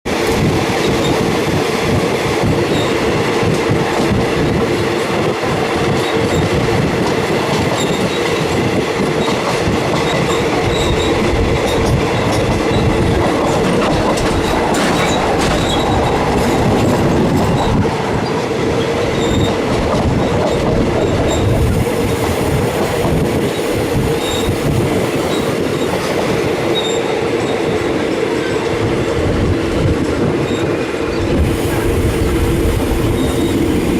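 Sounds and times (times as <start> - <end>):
train rumbling: 0.0 - 33.9
wheels clacking over rail joints: 0.2 - 29.2.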